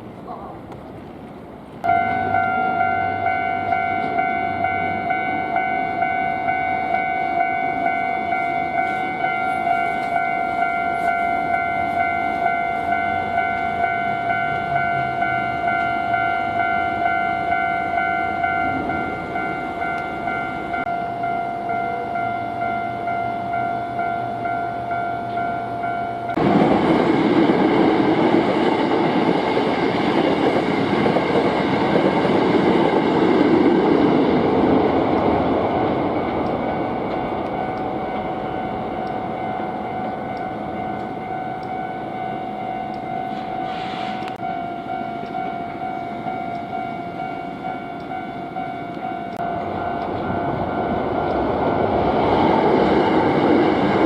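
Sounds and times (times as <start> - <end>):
train wheels rumbling on rails: 0.0 - 54.0
level crossing warning bell: 1.8 - 54.0.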